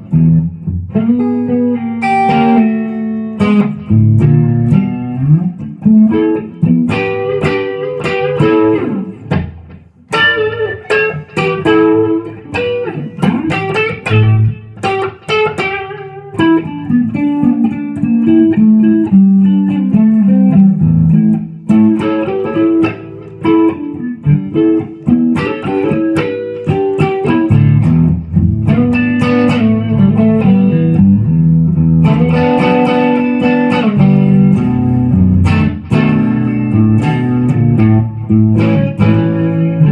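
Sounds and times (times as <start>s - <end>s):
electric guitar riffs: 0.0s - 39.9s.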